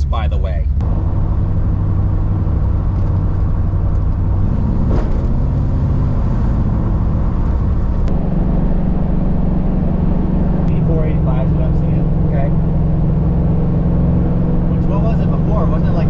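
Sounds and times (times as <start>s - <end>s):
car engine and exhaust drone: 0.0s - 16.0s.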